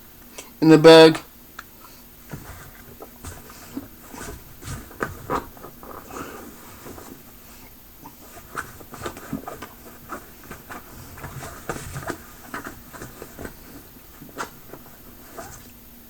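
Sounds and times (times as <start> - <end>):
rummaging in a bag: 2.1 - 16.0.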